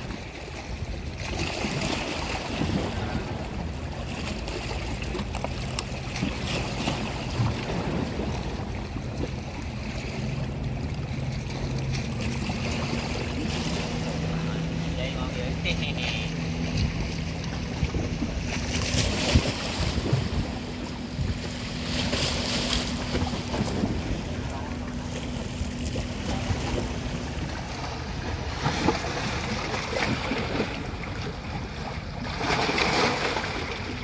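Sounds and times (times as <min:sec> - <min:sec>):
wind buffeting microphone: 0:00.0 - 0:32.3
low steady hum: 0:00.0 - 0:34.0
sea waves breaking: 0:00.0 - 0:34.0
wave splashing over rocks: 0:00.0 - 0:34.0.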